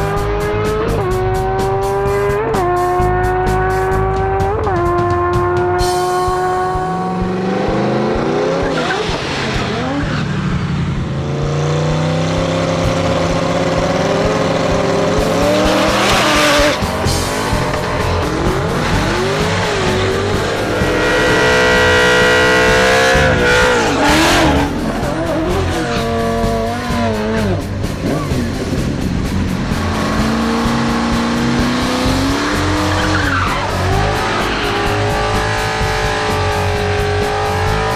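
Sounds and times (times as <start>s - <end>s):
background music: 0.0s - 37.9s
car engines revving: 0.0s - 37.9s
tire squeal: 5.8s - 37.9s.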